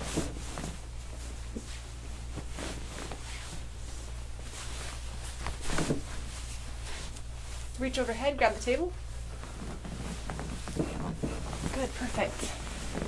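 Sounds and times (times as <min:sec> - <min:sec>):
people rustling and shuffling: 0:00.0 - 0:13.0
steady low hum: 0:00.0 - 0:13.0.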